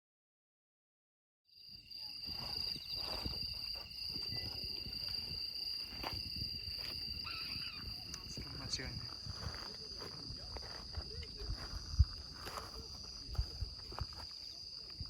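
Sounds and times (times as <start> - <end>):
insects trilling: 1.5 - 15.0.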